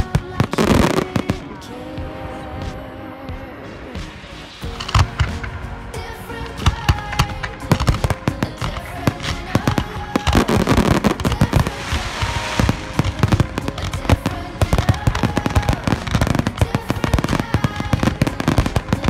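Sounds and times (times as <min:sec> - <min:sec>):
fireworks bursting and crackling: 0:00.0 - 0:01.7, 0:04.0 - 0:19.0.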